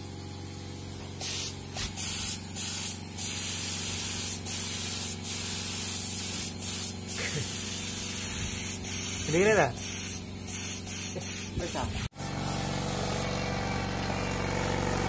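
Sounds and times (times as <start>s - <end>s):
air compressor humming: 0.0s - 15.0s
compressed air hissing: 0.4s - 13.2s.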